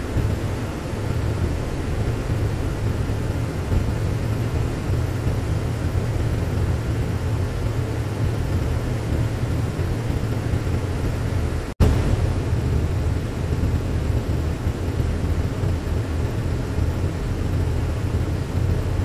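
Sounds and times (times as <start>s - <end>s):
plane engine and propeller droning: 0.0s - 19.0s.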